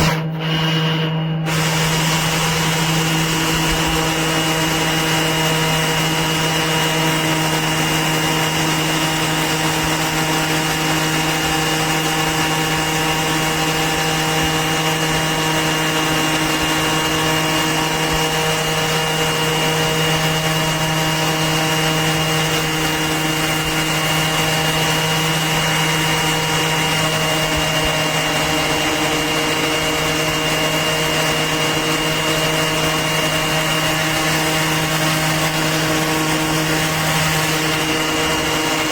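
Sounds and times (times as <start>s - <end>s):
orbit sander on wood: 0.0s - 38.9s.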